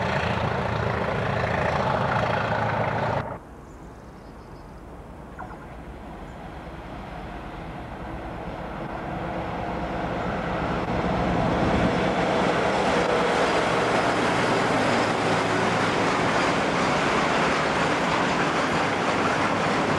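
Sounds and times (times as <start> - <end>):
diesel locomotive passing: 0.0 - 3.4, 5.2 - 19.9.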